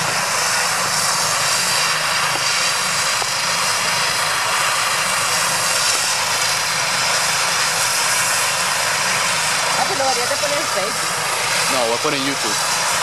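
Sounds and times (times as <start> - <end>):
helicopter engine and rotor whine: 0.0 - 13.0.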